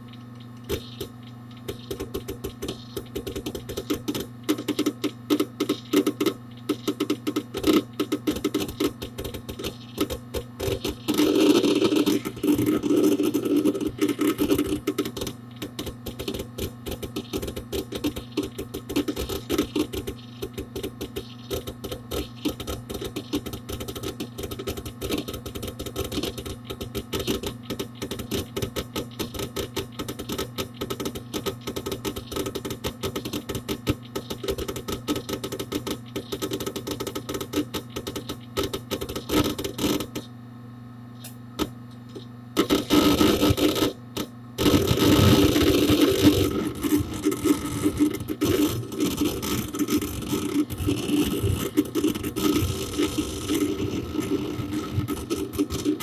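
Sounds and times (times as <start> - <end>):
hard disk clicking and chattering: 0.0 - 40.4, 41.2 - 56.0
computer low hum: 0.0 - 56.0.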